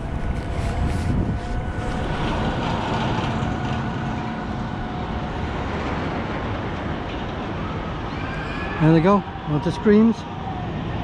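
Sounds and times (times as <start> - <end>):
faint whine: 0.0 - 11.0
roller coaster rumbling on track: 0.0 - 11.0.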